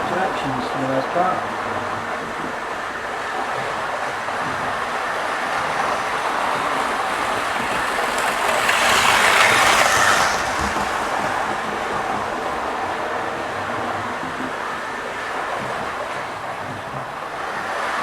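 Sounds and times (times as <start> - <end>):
model train whirring and rattling: 0.0 - 18.0.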